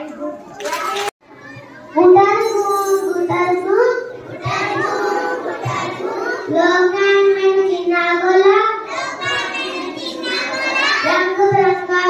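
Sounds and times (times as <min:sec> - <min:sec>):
boy singing into microphone: 0:02.1 - 0:12.0.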